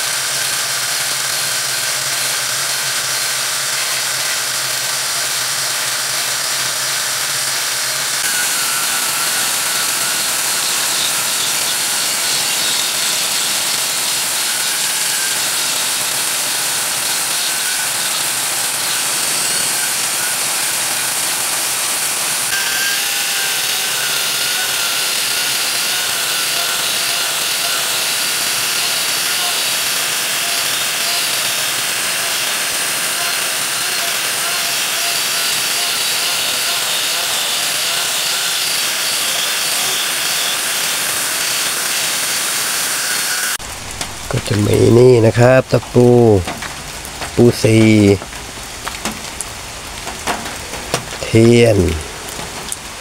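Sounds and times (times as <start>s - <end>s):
angle grinder chainsaw cutting wood: 0.0s - 53.0s.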